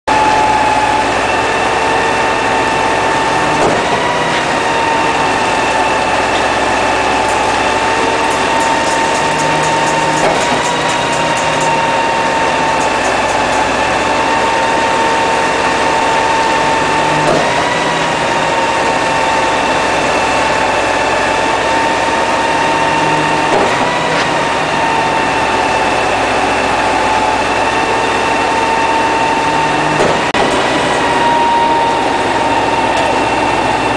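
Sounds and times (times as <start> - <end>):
pump truck engine whine: 0.0 - 33.9.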